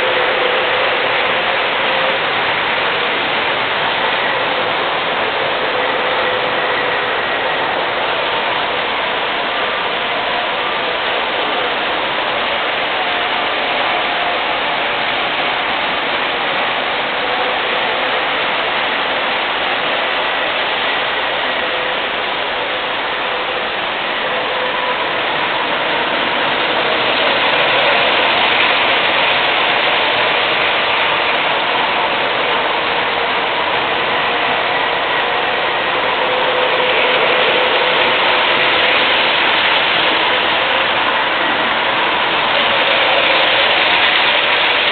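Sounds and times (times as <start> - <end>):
faint motor whine: 0.0 - 44.9
model trains rolling on tracks: 0.0 - 44.9.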